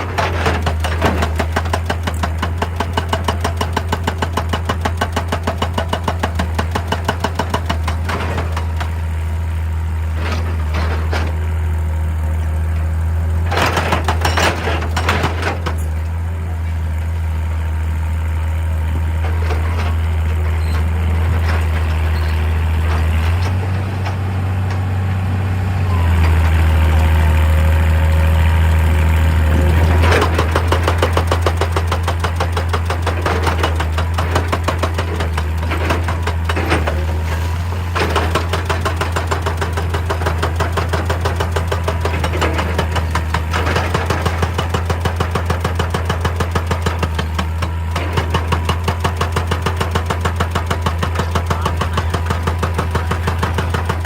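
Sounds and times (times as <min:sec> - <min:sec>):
metal and rock clanking: 0:00.0 - 0:11.9, 0:12.6 - 0:17.2, 0:18.8 - 0:26.8, 0:29.4 - 0:54.0
excavator diesel engine: 0:00.0 - 0:54.0.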